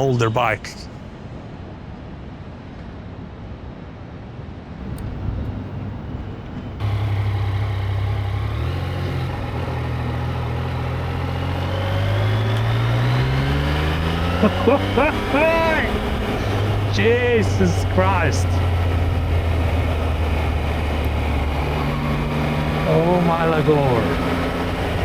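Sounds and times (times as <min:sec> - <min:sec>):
wind and road rumble: 0:04.6 - 0:25.0
motorcycle engine running: 0:04.8 - 0:25.0.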